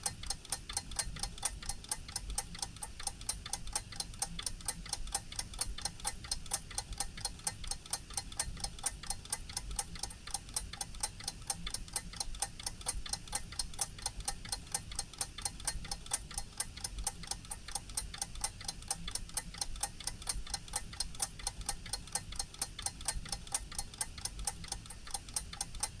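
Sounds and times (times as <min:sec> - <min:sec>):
wristwatch ticking fast: 0:00.0 - 0:26.0.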